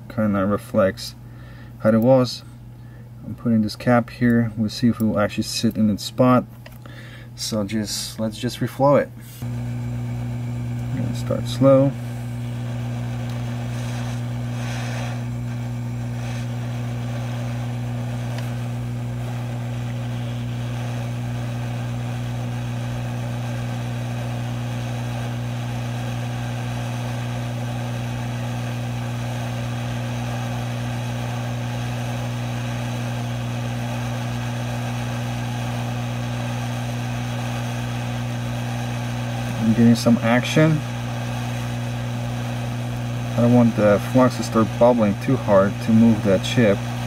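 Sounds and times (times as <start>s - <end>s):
hot air station humming: 1.2s - 3.2s, 6.7s - 7.4s, 9.2s - 47.0s.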